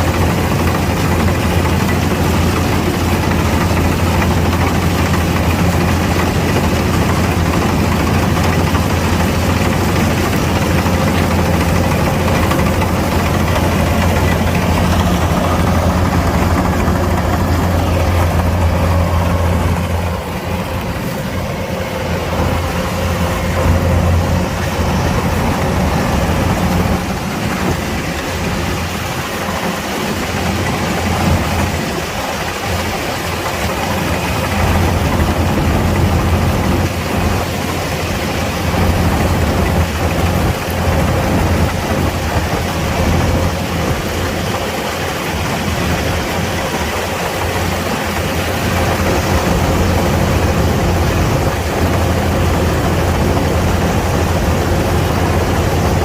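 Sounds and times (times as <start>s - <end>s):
combine harvester engine drone: 0.0s - 56.0s
rushing noise: 0.0s - 56.0s.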